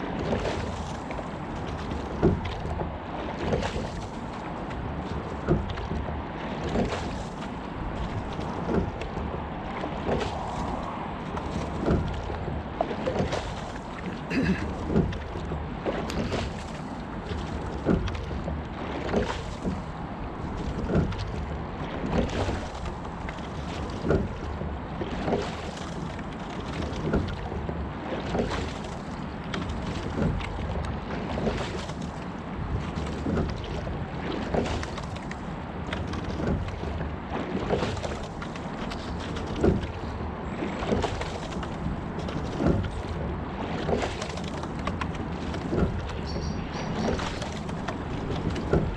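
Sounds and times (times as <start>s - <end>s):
oars knocking and splashing: 0.0s - 48.9s
water rushing along hull: 0.0s - 48.9s.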